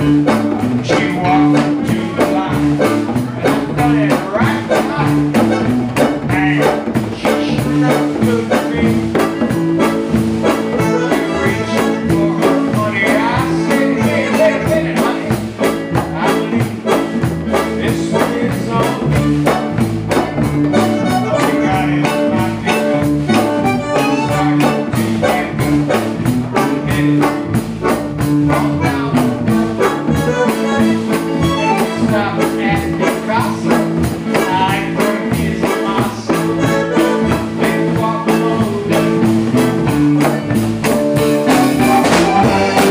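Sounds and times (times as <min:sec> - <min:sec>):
drum kit with cymbals: 0:00.0 - 0:42.9
electric bass line: 0:00.0 - 0:42.9
melody over band: 0:00.0 - 0:42.9.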